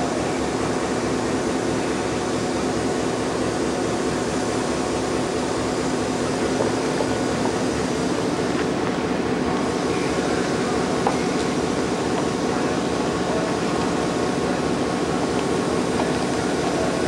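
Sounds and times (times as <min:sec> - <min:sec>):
train cars humming and whirring: 0:00.0 - 0:17.0.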